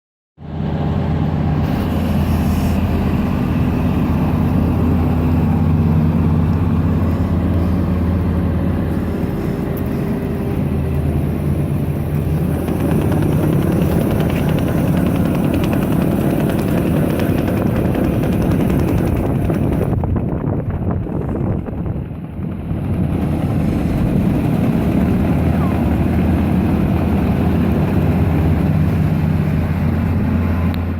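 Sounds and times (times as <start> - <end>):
diesel engine running: 0.4 - 30.9.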